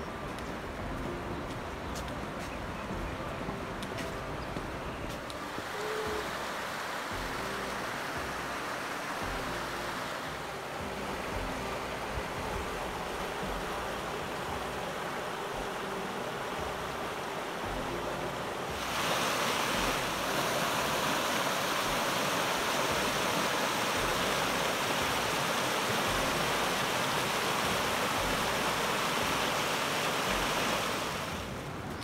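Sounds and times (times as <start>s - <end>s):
river rushing over rocks: 3.6s - 31.9s.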